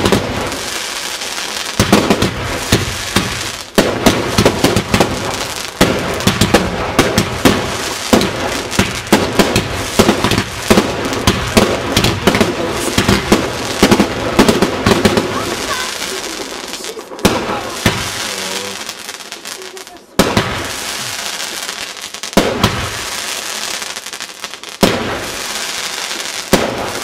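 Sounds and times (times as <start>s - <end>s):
firework hissing rush: 0.0s - 27.0s
firework shells bursting: 0.0s - 27.0s.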